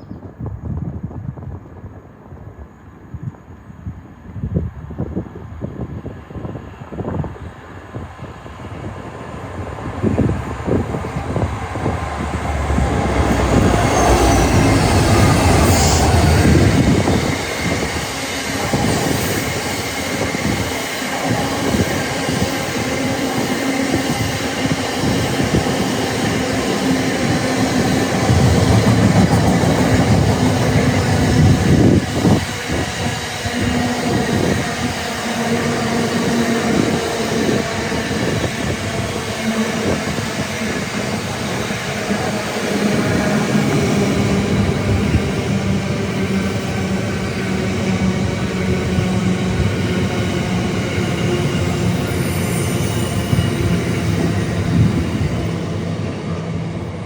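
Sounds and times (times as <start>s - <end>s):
train wheels rumbling on rails: 0.2s - 57.0s.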